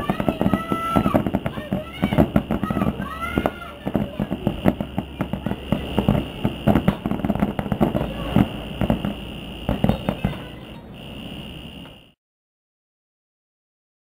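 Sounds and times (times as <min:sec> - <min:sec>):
fireworks bangs and pops: 0:00.0 - 0:12.2
high-pitched tone: 0:00.0 - 0:12.2.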